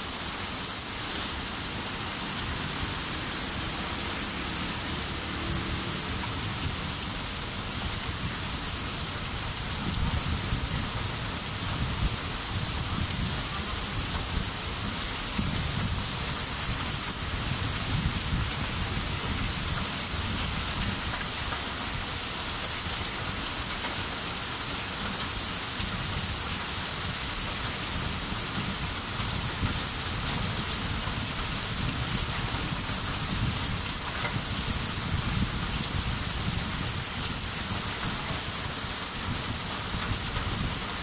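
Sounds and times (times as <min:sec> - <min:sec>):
heavy rain on pavement: 0:00.0 - 0:41.0.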